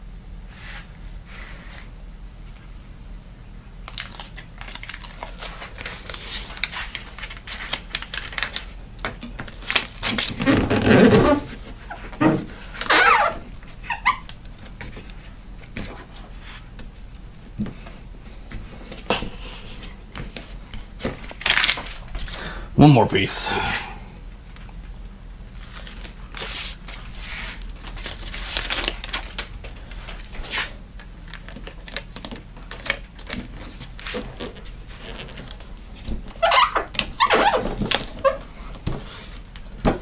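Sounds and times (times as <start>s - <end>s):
foil tape crinkling and rustling: 3.8s - 17.2s, 18.5s - 22.6s, 24.5s - 40.0s.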